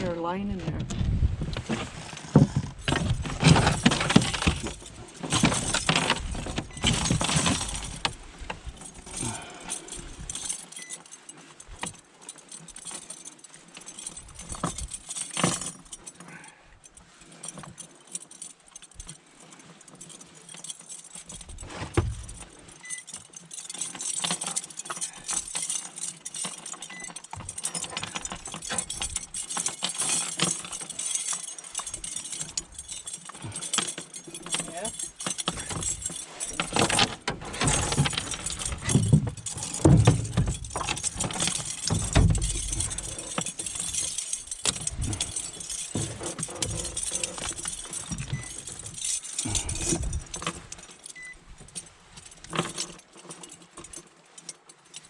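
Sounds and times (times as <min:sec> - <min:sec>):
fishing tackle clinking and rustling: 0:01.5 - 0:55.0.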